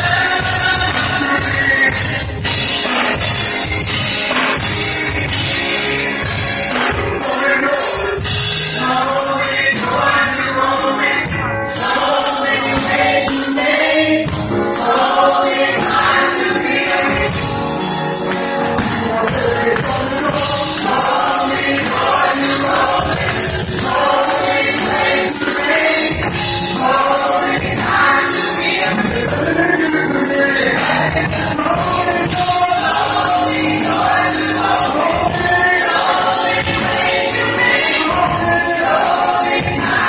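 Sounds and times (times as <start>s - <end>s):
singers singing in harmony: 0.0s - 3.5s, 4.4s - 40.0s
drums with steady beat: 0.0s - 40.0s
keyboard: 0.0s - 40.0s.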